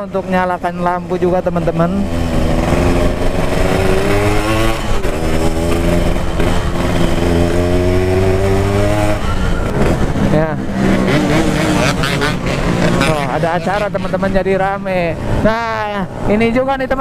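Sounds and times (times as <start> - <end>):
two-stroke motorcycle engine revving: 0.0 - 15.8.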